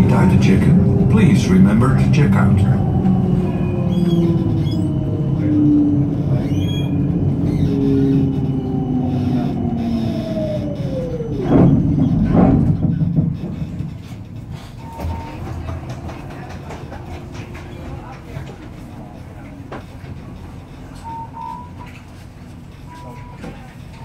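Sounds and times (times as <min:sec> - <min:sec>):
tram motor whine: 0:00.0 - 0:24.0.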